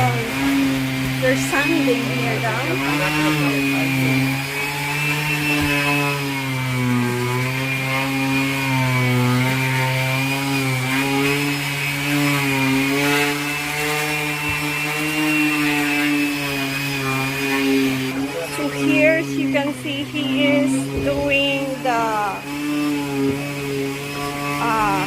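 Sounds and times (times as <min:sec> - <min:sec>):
electric sander running: 0:00.0 - 0:25.0.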